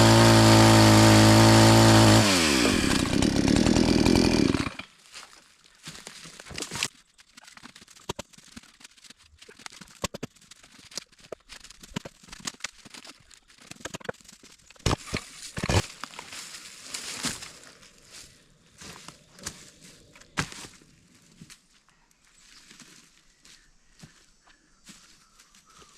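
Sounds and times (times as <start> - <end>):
rustling in dry leaves: 2.2 - 25.9.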